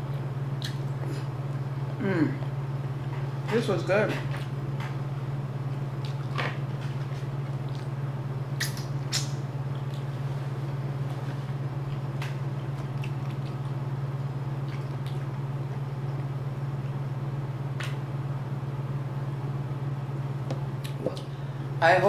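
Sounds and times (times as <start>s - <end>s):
soft eating and drinking: 0.0s - 18.0s
steady low hum: 0.0s - 22.0s.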